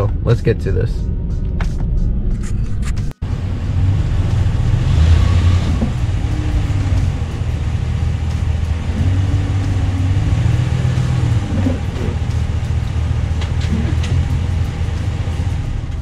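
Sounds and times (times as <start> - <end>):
truck engine running at low revs: 0.0 - 16.0.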